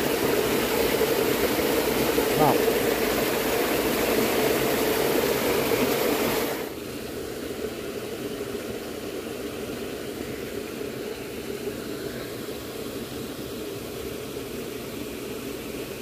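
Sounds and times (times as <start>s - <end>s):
stream water rippling: 0.0s - 16.0s.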